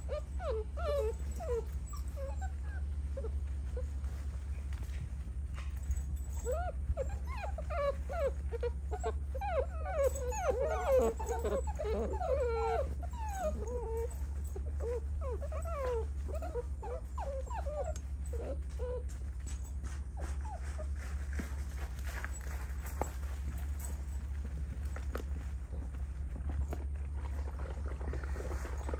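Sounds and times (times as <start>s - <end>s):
puppies whining and yipping: 0.0s - 28.9s
steady low hum: 0.0s - 28.9s.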